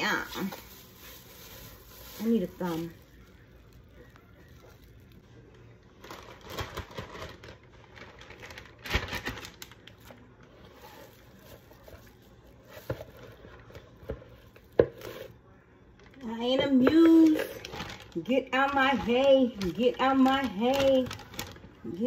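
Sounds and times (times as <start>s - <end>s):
plastic bag crinkling: 0.0s - 15.3s, 16.9s - 22.0s.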